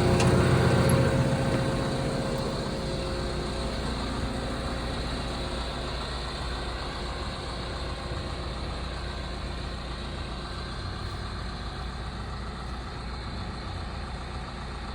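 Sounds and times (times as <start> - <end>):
excavator diesel engine idling: 0.0 - 14.9.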